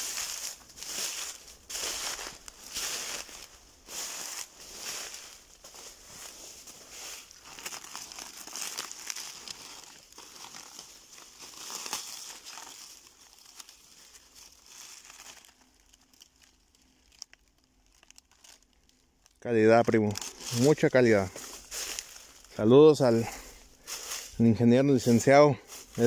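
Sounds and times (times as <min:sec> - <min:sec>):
dry corn husks crackling: 0:00.0 - 0:26.0.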